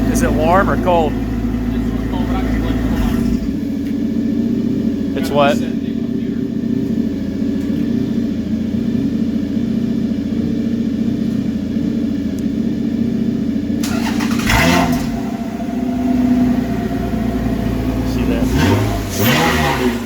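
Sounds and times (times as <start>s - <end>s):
car engine running and revving: 0.0s - 20.0s.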